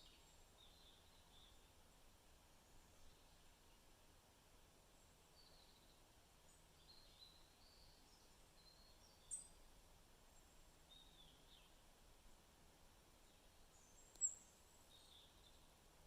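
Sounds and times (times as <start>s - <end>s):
quiet background hiss: 0.0s - 16.0s.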